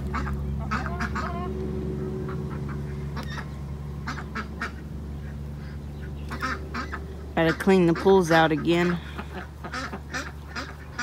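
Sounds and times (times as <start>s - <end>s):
ducks quacking softly: 0.0s - 11.0s
steady low hum: 0.0s - 11.0s.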